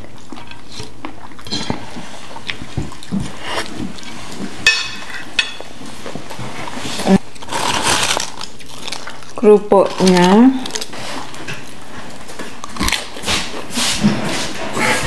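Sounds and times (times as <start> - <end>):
food crunch: 0.0 - 13.8
chewing: 0.0 - 15.0.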